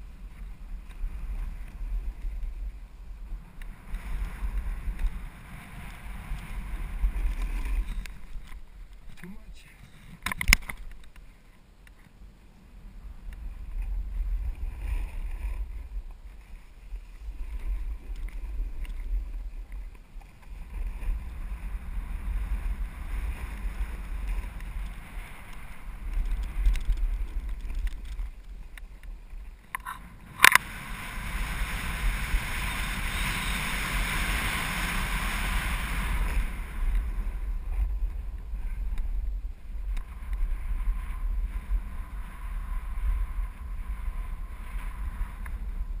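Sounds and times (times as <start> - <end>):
snowboard scraping over snow: 0.0 - 8.9, 12.8 - 46.0
wind buffeting microphone: 0.0 - 11.1, 12.8 - 46.0.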